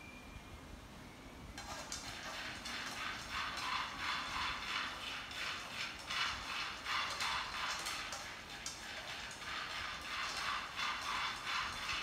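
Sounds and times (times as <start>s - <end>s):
utensil scraping frying pan: 1.6s - 12.0s.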